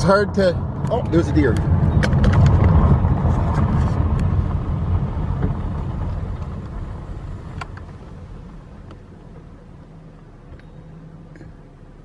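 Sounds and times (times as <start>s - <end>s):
car tyres rumbling on gravel: 0.0s - 12.0s.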